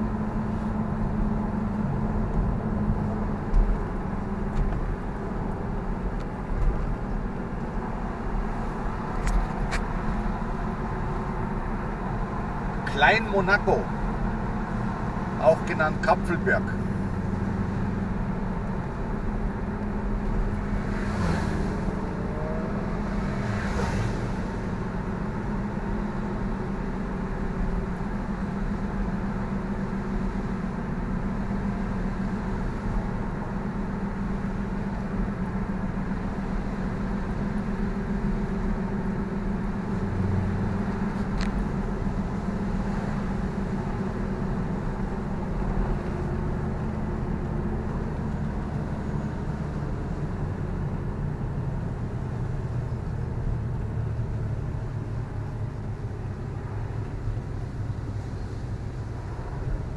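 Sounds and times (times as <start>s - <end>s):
car engine low drone: 0.0s - 59.9s.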